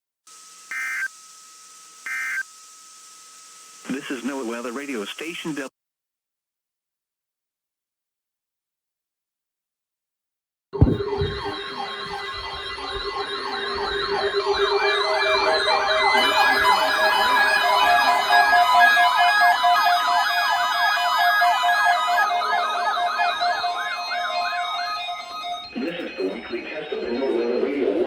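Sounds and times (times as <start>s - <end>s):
electronic sirens yelping: 0.3s - 5.7s, 10.8s - 28.0s.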